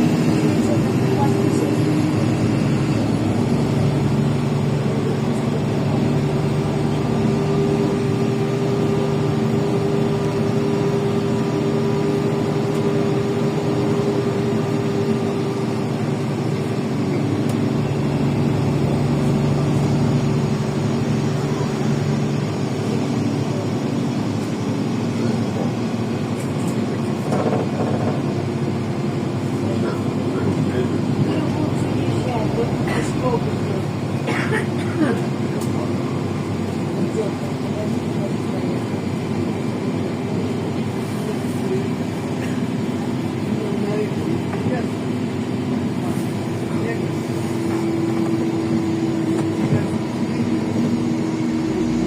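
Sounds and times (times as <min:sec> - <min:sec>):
bus engine drone: 0:00.0 - 0:52.0
road noise: 0:00.0 - 0:52.0.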